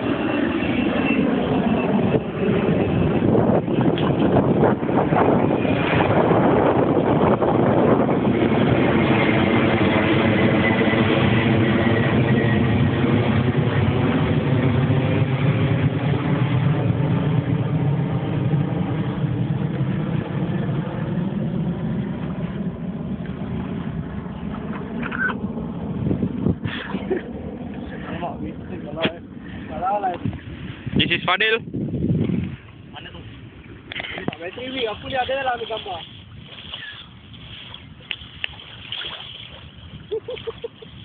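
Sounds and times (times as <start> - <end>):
jet airliner passing overhead: 0.0 - 41.0.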